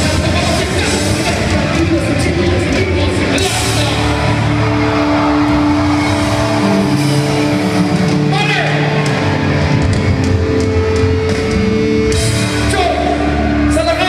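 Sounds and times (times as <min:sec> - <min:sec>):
live rock band music: 0:00.0 - 0:14.0.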